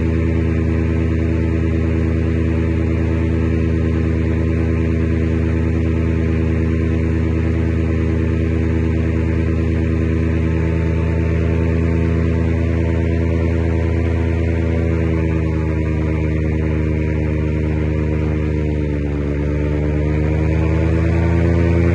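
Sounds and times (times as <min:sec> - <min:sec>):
paramotor engine drone: 0:00.0 - 0:21.9.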